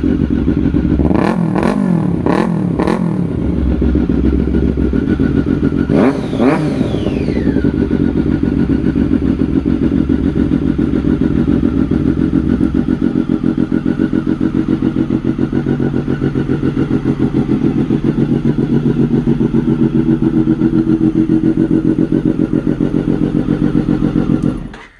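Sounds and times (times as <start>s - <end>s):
motorcycle engine idling and blipping: 0.0s - 24.9s.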